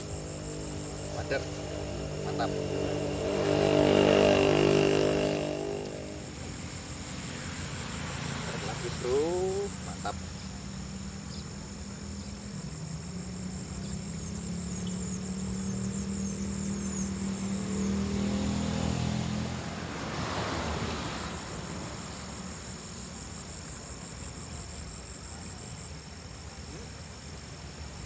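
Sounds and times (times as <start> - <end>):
vehicle engine passing by: 0.0 - 23.2
insects trilling: 0.0 - 28.0.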